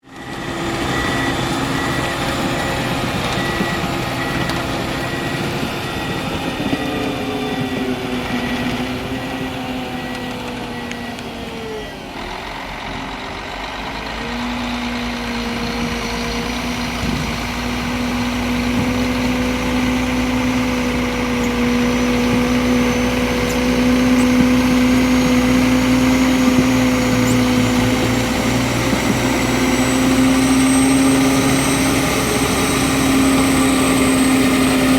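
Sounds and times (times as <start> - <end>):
diesel engine under load: 0.0 - 34.9
turbo and hydraulic pumps whining: 0.0 - 34.9.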